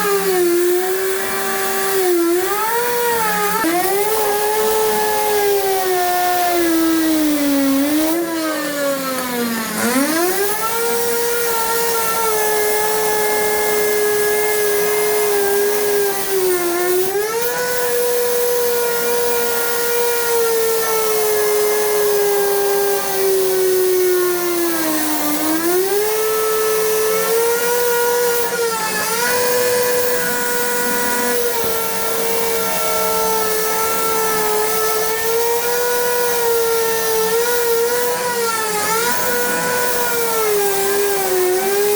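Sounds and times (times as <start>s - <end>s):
power saw motor whining: 0.0s - 41.9s.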